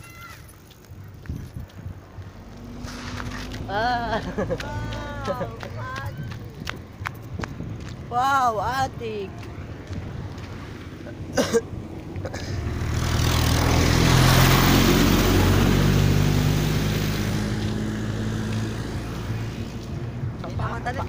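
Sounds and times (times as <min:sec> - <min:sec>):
truck passing by: 0:01.8 - 0:21.0.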